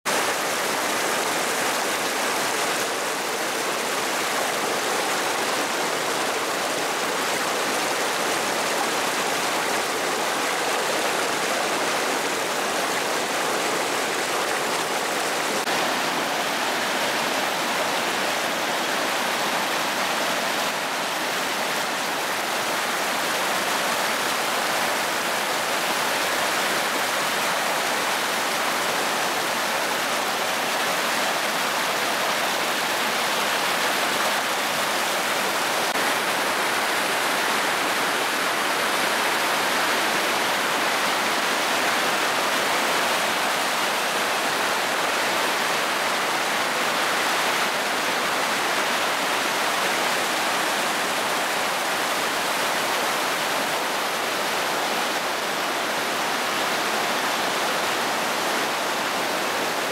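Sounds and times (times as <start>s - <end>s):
stream rushing over rocks: 0.1s - 59.9s.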